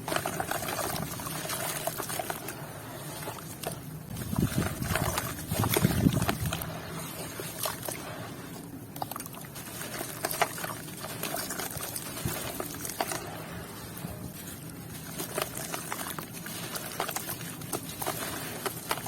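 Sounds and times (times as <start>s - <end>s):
wet dirt sloshing in water: 0.0s - 19.0s.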